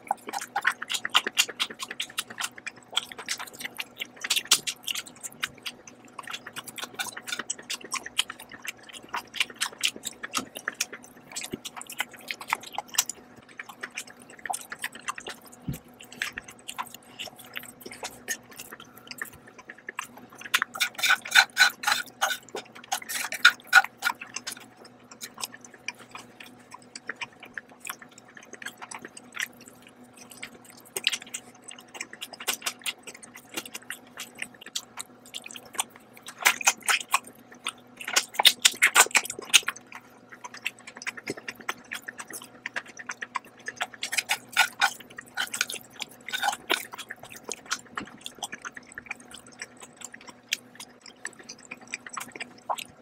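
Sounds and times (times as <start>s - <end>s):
close-up wet chewing: 0.0s - 53.0s.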